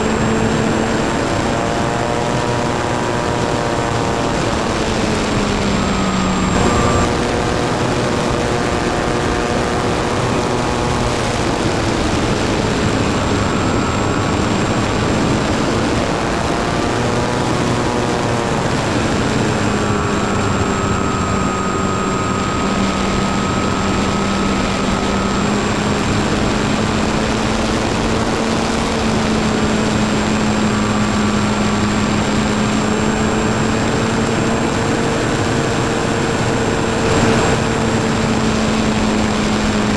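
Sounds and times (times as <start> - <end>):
model aircraft motor and propeller: 0.0 - 39.9
wind rush: 0.0 - 39.9.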